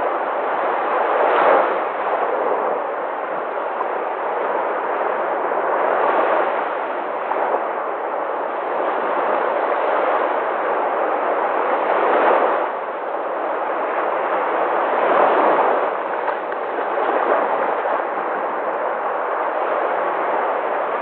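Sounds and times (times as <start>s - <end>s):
sea waves washing onto shore: 0.0s - 21.0s.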